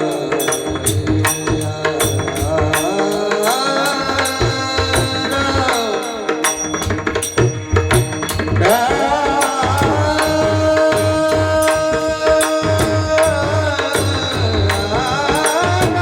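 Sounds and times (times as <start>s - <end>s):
person singing devotional chant: 0.0s - 7.4s, 8.1s - 16.0s
drum strokes: 0.0s - 16.0s
hand cymbal strikes: 0.0s - 16.0s.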